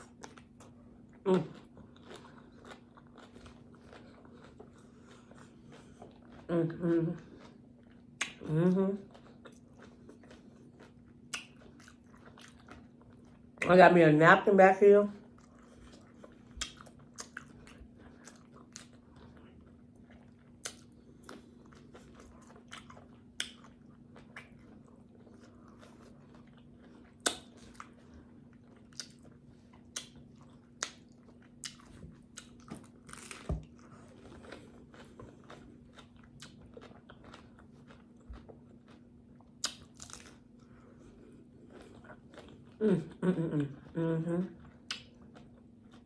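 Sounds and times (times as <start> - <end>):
crunching and wet chewing: 0.0 - 6.6, 7.2 - 8.4, 9.0 - 13.7, 15.2 - 42.8, 44.5 - 46.0
faint steady hum: 0.0 - 46.0.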